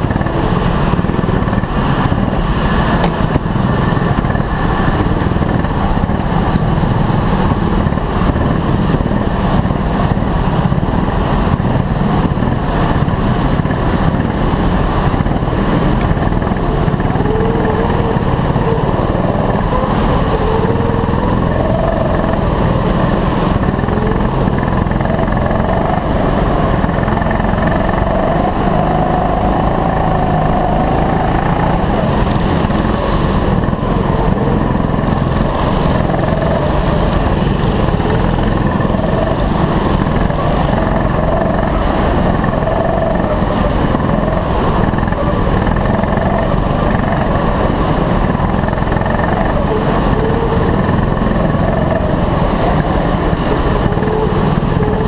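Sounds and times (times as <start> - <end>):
kart engine running hard: 0.0 - 55.0
other kart engines: 0.0 - 55.0.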